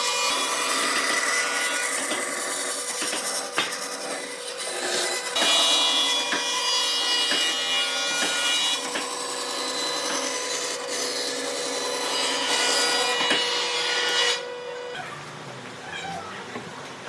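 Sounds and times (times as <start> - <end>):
tool sawing wood: 0.0 - 14.6.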